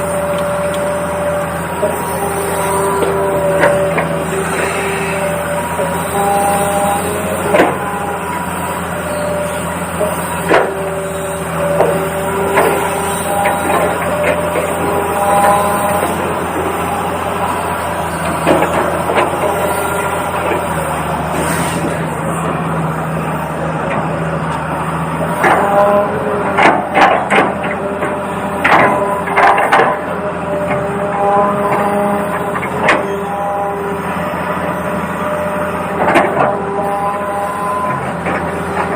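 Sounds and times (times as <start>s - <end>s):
toy excavator engine hum: 0.0s - 38.9s.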